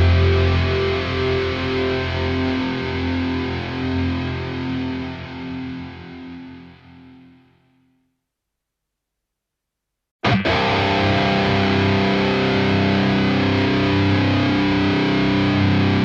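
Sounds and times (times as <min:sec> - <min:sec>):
distorted electric guitar chord: 0:00.0 - 0:07.4, 0:10.2 - 0:16.0.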